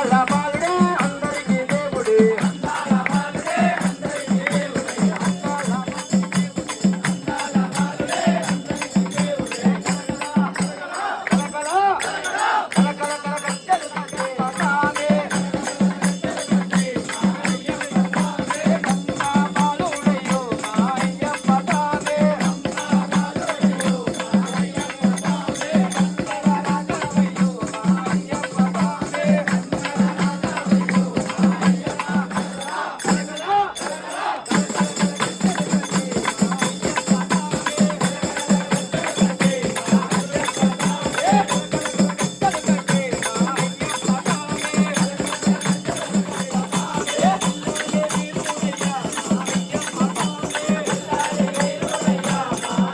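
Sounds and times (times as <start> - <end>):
devotional singing: 0.0 - 52.9
jingling rattle percussion: 0.0 - 52.9
rhythmic beat: 0.0 - 52.9.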